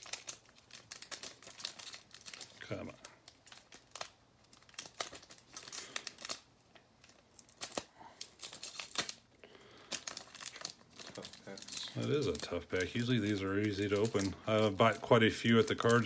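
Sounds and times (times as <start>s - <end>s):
wrapper crinkling and tearing: 0.0s - 16.0s.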